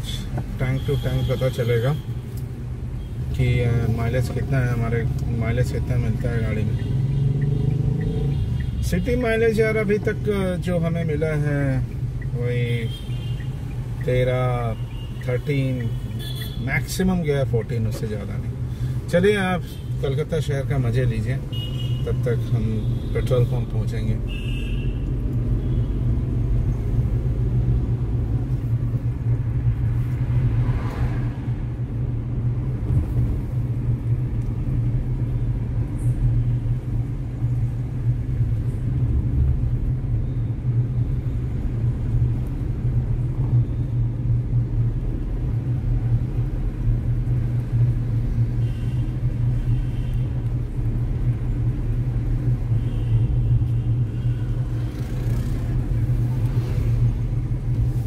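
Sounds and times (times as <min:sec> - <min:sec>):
road and tyre noise: 0:00.0 - 0:58.0.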